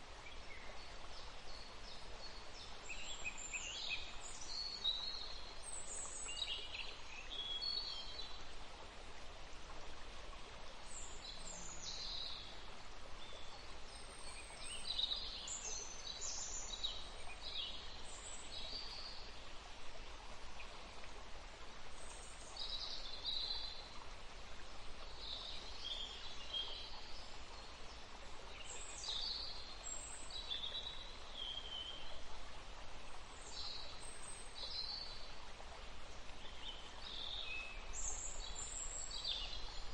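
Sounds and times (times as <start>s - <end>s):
river water running: 0.0s - 39.9s
songbirds chirping: 0.0s - 39.9s.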